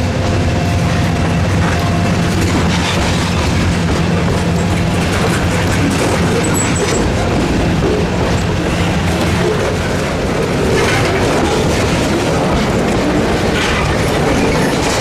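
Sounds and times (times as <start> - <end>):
freight train wheels rumbling on track: 0.0 - 15.0.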